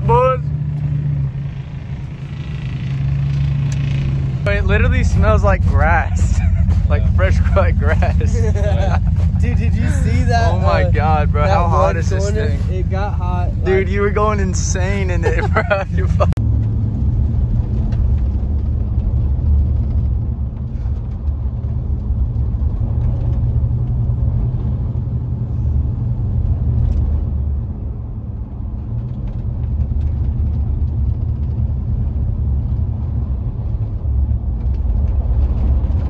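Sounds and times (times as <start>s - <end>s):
road noise: 0.0s - 36.0s
vehicle engine rumble: 0.0s - 36.0s.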